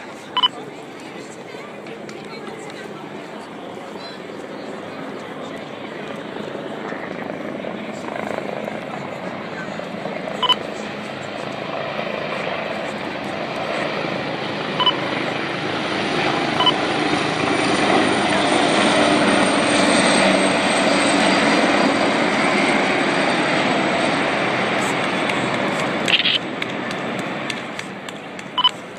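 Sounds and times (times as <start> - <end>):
helicopters flying low past: 0.0 - 28.9.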